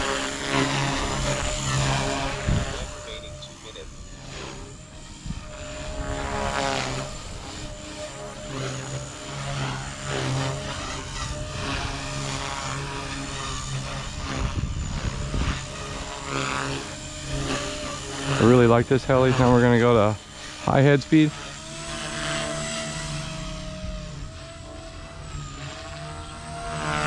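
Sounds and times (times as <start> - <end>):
electric helicopter whine: 0.0 - 27.0.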